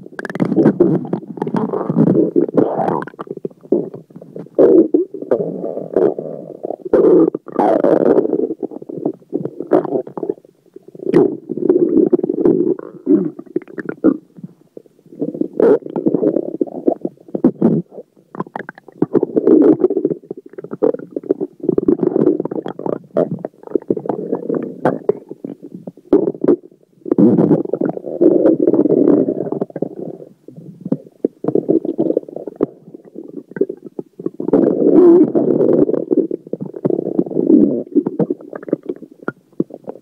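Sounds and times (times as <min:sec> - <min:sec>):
stomach gurgling: 0:00.0 - 0:40.0.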